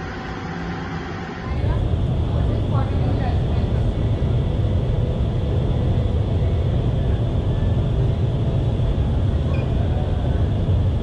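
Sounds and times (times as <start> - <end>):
deep rumble: 0.0 - 11.0
wind tunnel airflow rushing: 0.0 - 11.0.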